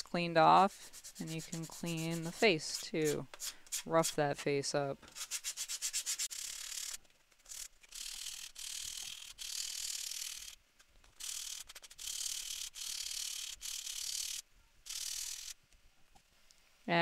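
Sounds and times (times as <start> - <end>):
sandpaper rubbing on wood: 0.5 - 4.4, 5.1 - 15.6.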